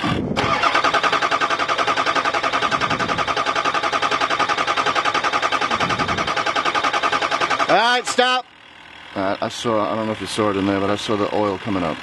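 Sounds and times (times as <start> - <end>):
starter cranking diesel engine: 0.0 - 12.0.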